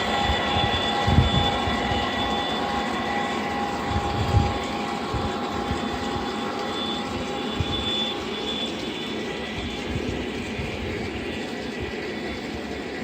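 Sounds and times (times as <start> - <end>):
model train rumble and whine: 0.0 - 13.0.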